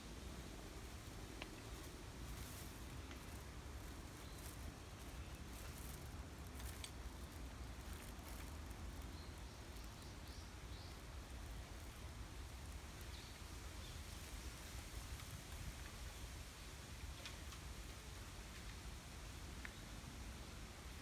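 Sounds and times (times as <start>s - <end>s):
bamboo rustling in wind: 0.0s - 21.0s.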